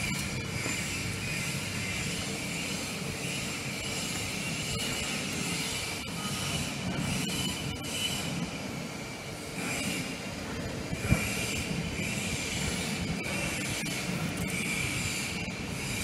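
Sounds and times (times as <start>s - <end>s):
workshop machinery noise: 0.0s - 16.0s.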